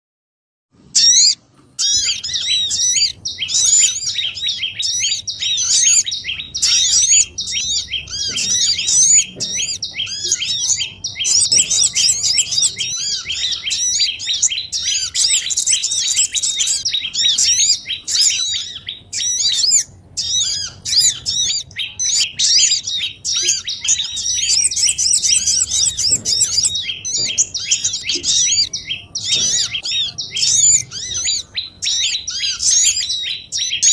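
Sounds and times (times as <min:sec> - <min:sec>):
small birds chirping: 0:00.8 - 0:33.9.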